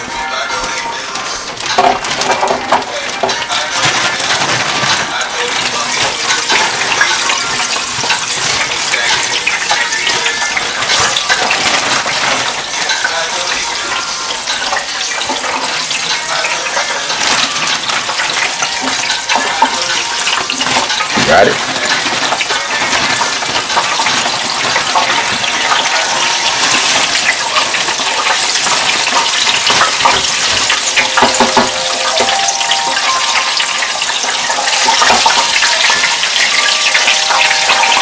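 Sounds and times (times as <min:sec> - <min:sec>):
chicken wings sizzling in oil: 0:00.0 - 0:38.0.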